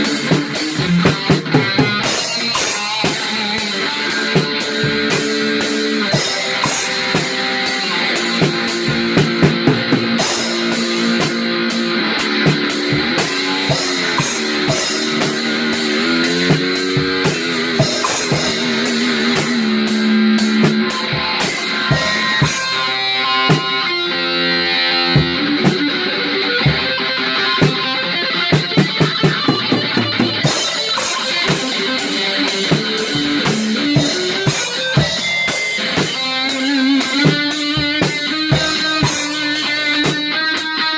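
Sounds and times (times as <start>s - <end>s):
drum kit: 0.0s - 40.9s
lead guitar: 0.0s - 40.9s.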